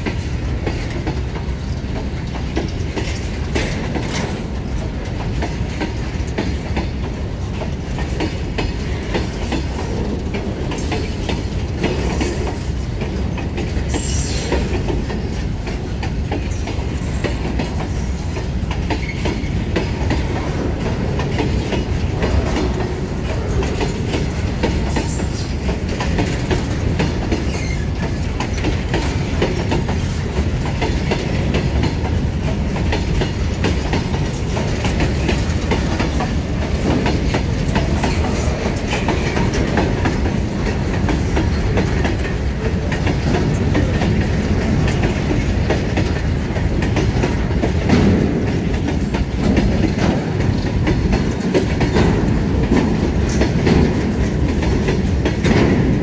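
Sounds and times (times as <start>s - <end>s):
goods train rumbling past: 0.0s - 56.0s
wheels clattering over rail joints: 0.0s - 56.0s.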